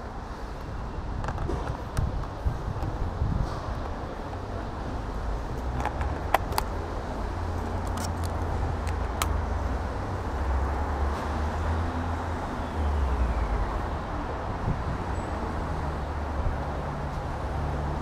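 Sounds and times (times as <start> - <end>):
low traffic rumble: 0.0 - 18.0
cars going past: 3.4 - 18.0.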